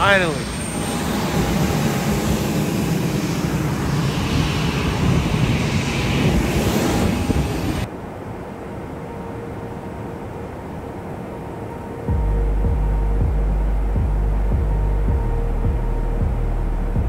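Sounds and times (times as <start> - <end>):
jet engines and rushing air: 0.0 - 17.0.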